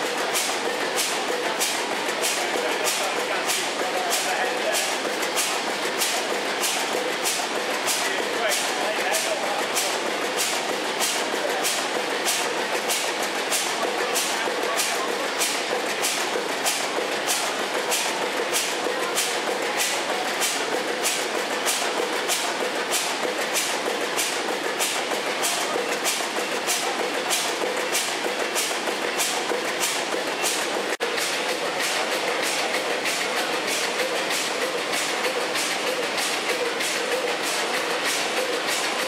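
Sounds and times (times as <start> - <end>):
machinery running with regular beat: 0.0 - 39.0.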